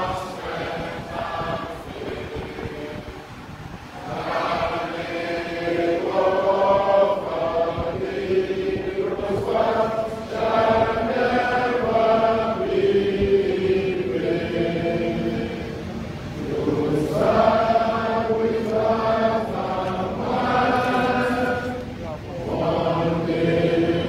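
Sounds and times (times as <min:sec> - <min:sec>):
crowd chanting in unison: 0:00.0 - 0:03.2, 0:04.0 - 0:24.0.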